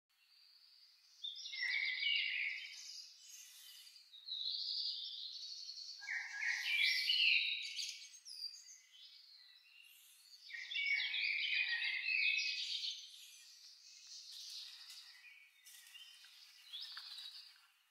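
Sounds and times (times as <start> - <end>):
songbird singing: 0.1 - 17.9.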